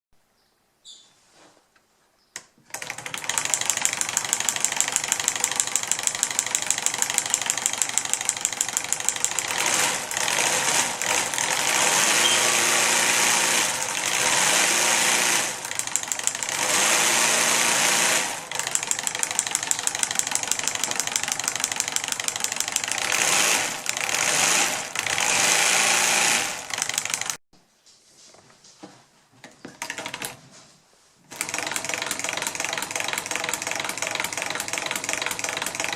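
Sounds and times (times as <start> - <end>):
solenoid engine model clattering: 2.7 - 27.4, 31.3 - 35.9.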